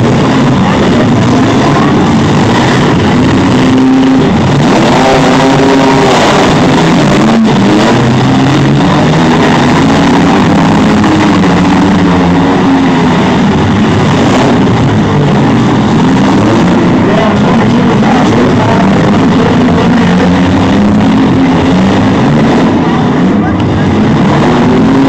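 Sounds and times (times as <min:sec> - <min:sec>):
vehicle engines revving: 0:00.0 - 0:25.0.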